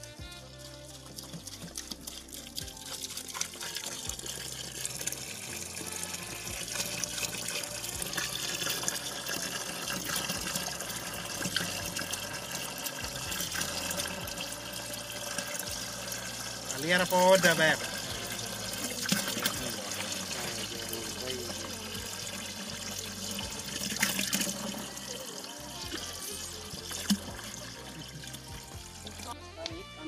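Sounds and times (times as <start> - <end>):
water pouring into plastic bucket: 0.0 - 29.4.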